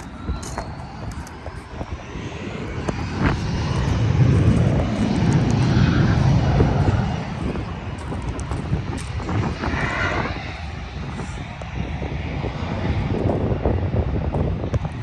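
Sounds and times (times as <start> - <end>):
jet airliner engine roar: 0.0 - 15.0.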